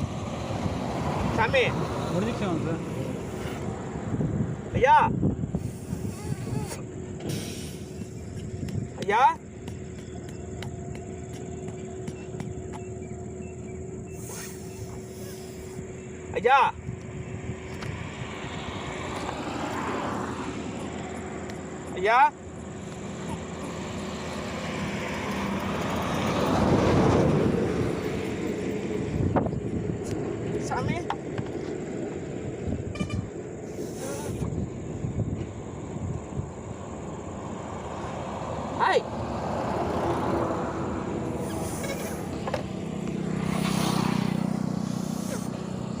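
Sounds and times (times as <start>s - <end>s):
vehicle passing: 0.0s - 6.1s, 6.8s - 33.6s, 35.7s - 46.0s.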